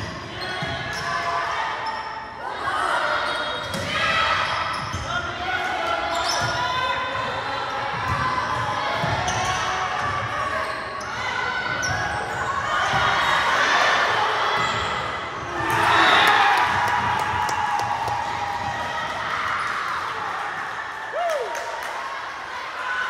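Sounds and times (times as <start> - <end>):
crowd of voices: 0.0 - 23.0.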